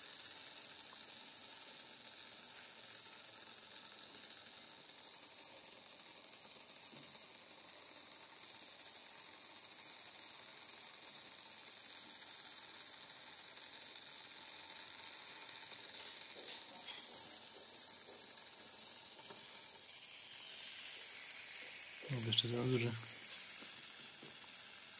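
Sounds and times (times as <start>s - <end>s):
high-pitched background hiss: 0.0s - 24.9s.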